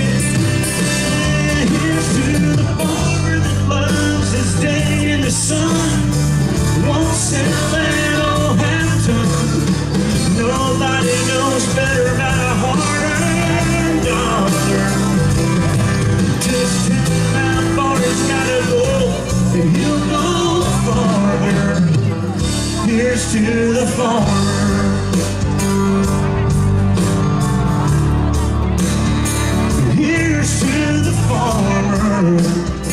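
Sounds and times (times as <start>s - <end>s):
live country band playing: 0.0s - 32.9s.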